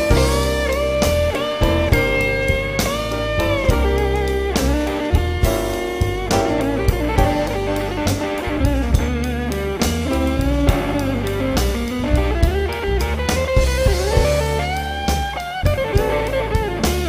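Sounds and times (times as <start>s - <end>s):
bass: 0.0s - 17.0s
drums: 0.0s - 17.0s
electric guitar lead with bent notes: 0.0s - 17.0s.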